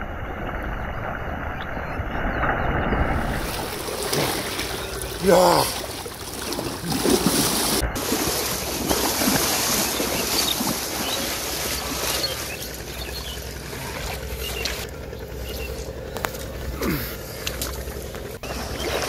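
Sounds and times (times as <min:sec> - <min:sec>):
water splashing around wading legs: 0:00.0 - 0:19.0.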